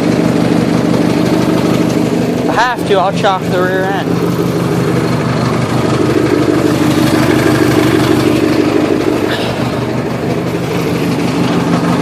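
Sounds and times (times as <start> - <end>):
garden tractor engine running: 0.0 - 12.0.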